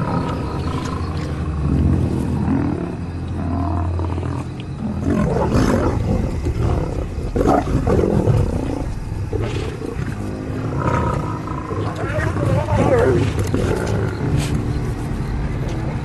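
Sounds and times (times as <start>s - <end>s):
lions growling: 0.0s - 16.0s.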